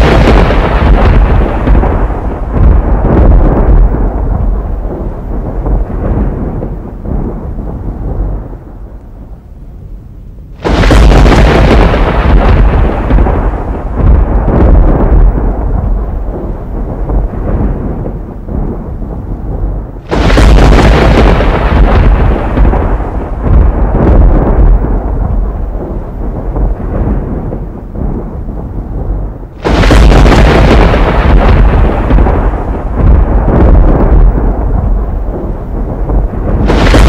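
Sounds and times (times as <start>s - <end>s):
thunder clap: 0.0s - 9.4s, 10.6s - 37.0s
thunder rolling: 0.0s - 9.9s, 10.5s - 37.0s.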